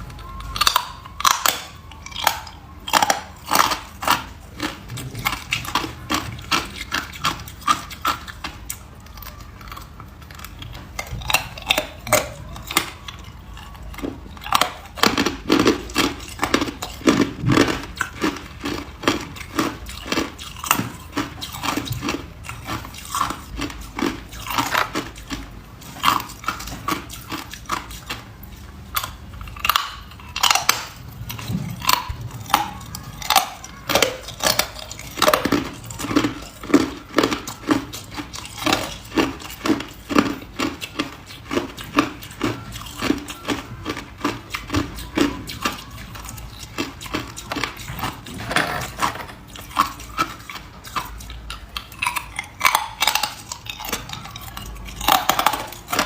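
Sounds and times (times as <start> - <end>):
chewing hard ice crunches: 0.3 - 56.0.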